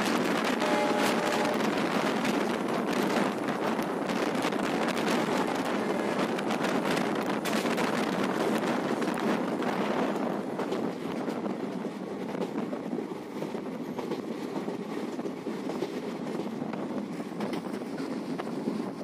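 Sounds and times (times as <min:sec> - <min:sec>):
train rushing and rattling: 0:00.0 - 0:19.0
wind buffeting microphone: 0:00.0 - 0:19.0.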